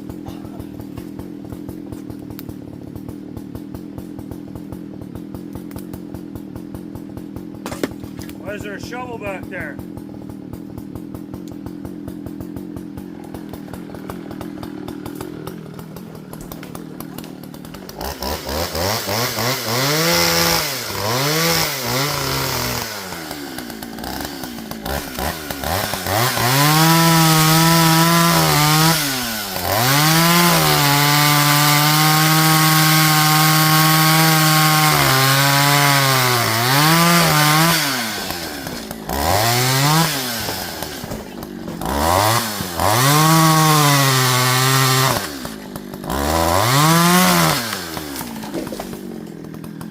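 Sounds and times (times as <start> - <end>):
chainsaw idling and revving: 0.0 - 49.9.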